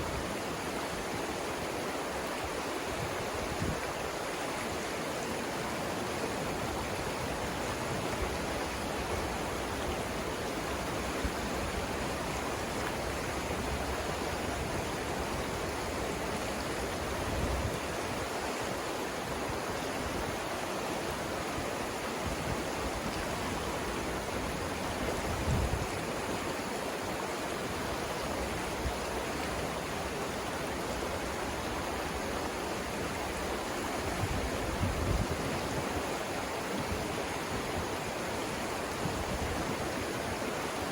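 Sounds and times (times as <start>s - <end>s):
river flowing over rapids: 0.0s - 40.9s.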